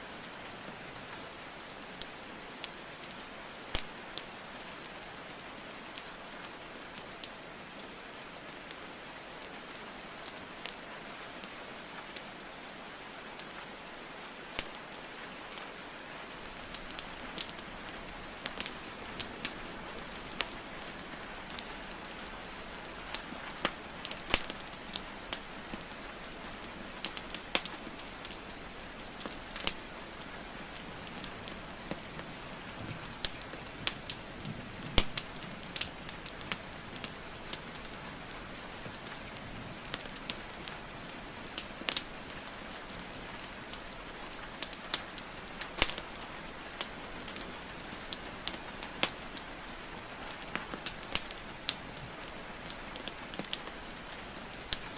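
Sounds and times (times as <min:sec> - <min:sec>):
rain falling: 0:00.0 - 0:54.9
wood fire crackling and popping: 0:01.6 - 0:05.0, 0:05.6 - 0:12.8, 0:13.4 - 0:54.9.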